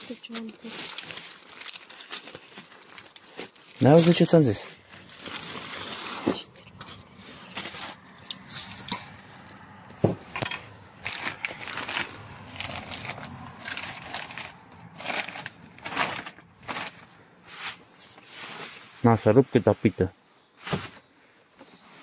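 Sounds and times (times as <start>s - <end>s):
food wrapping crinkling: 0.0s - 9.8s, 10.6s - 19.0s.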